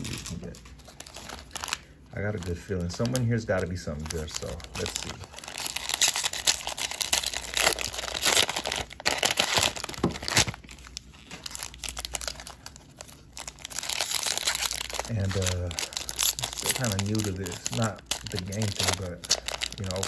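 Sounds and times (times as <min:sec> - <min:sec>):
plastic wrapper crinkling and tearing: 0:00.0 - 0:20.0.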